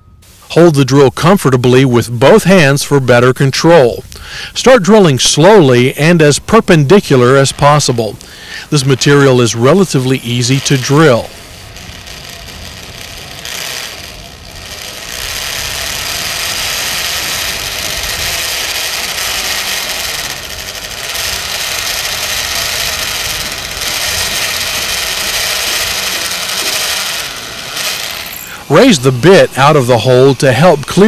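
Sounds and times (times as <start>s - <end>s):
hammer drill boring into concrete: 0.6s - 31.0s.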